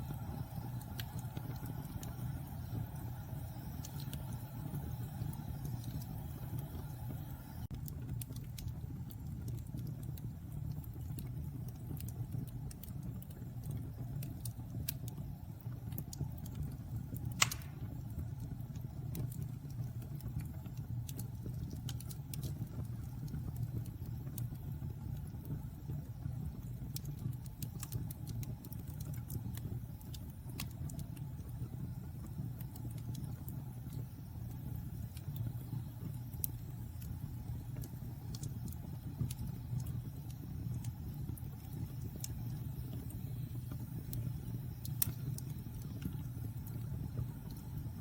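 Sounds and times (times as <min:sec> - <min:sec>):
fire crackling and popping: 0:00.0 - 0:48.0
fire rumbling: 0:00.0 - 0:48.0.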